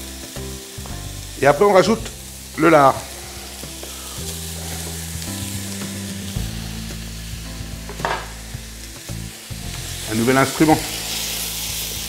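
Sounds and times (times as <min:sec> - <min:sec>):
low background music: 0:00.0 - 0:12.0
meat and vegetables sizzling in oil: 0:00.0 - 0:12.0.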